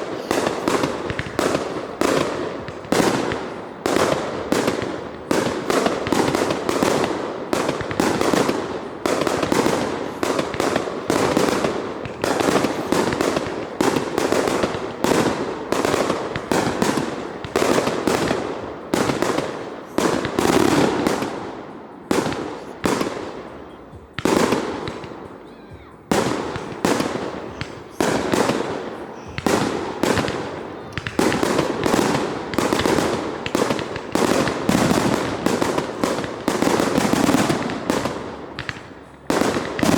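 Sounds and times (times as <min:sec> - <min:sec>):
fireworks exploding: 0:00.0 - 0:39.9.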